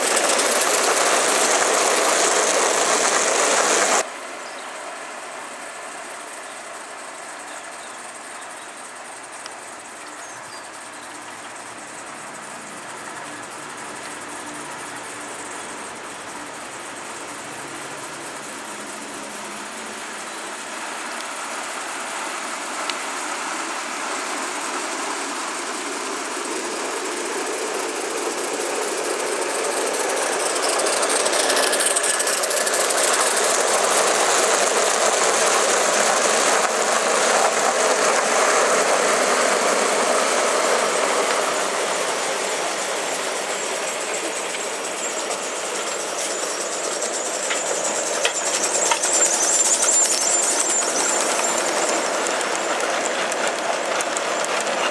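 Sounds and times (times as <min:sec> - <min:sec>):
wheels clattering on rails: 0:00.0 - 0:04.1, 0:07.5 - 0:54.9
steam hissing: 0:00.0 - 0:54.9.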